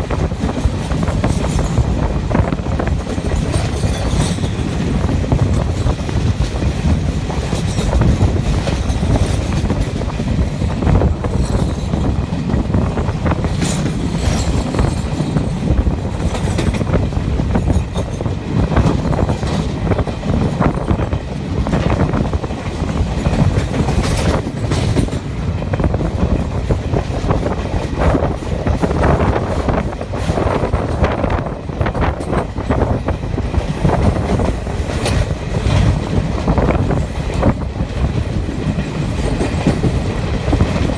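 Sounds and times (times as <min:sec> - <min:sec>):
rail joint clicks and knocks: 0:00.0 - 0:40.9
train wheels rumbling on rails: 0:00.0 - 0:40.9.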